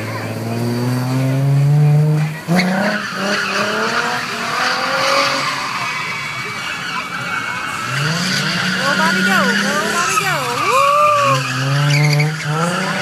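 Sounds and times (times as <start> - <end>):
car engine revving hard: 0.0 - 13.0
tyres squealing and skidding: 0.0 - 13.0.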